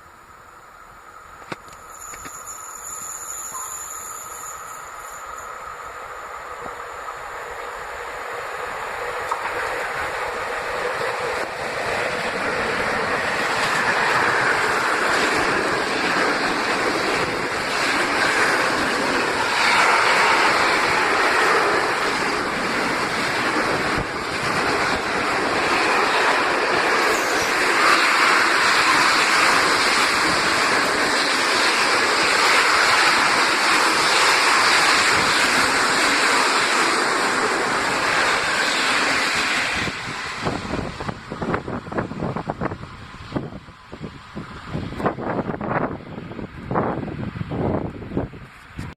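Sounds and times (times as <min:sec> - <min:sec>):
train wheels on rails: 0:00.0 - 0:48.9.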